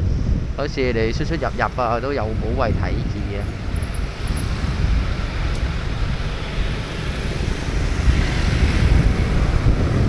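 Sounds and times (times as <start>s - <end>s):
motorbikes and cars passing: 0.0s - 10.0s
wind buffeting microphone: 0.0s - 10.0s.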